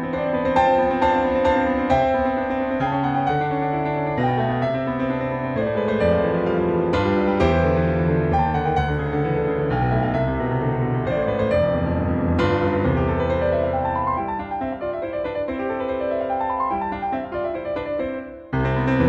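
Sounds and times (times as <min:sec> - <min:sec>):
piano music with arpeggios: 0:00.0 - 0:19.0.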